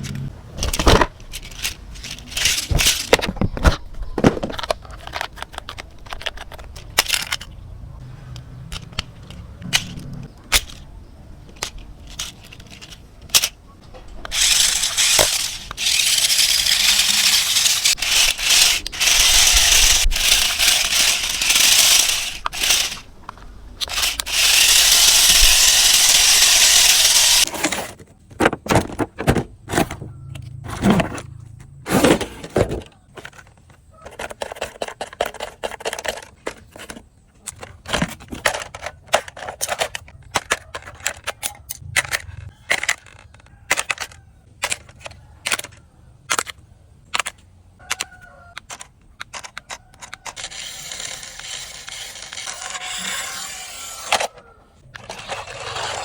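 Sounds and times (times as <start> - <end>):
small plastic parts clicking: 0.6 - 3.7, 4.3 - 7.7, 8.3 - 27.5, 32.9 - 53.3.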